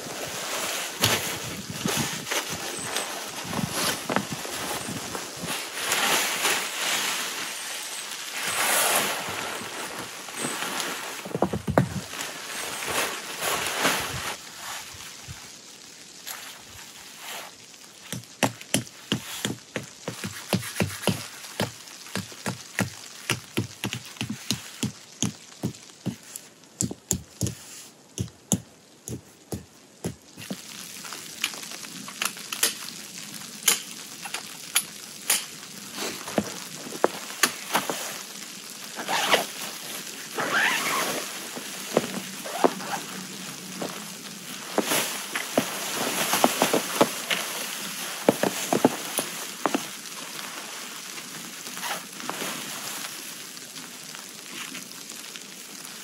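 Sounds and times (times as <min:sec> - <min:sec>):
sharp crackles: 0:00.0 - 0:56.0
tent fabric crinkling and rustling: 0:00.0 - 0:56.0.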